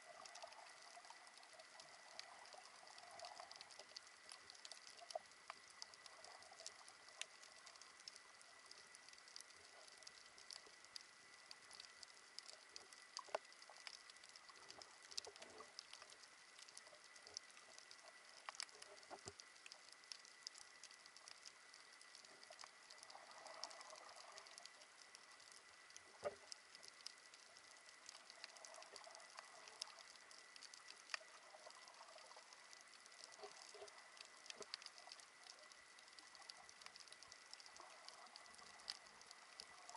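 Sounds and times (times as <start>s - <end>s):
snapping shrimp clicks underwater: 0.0s - 39.9s.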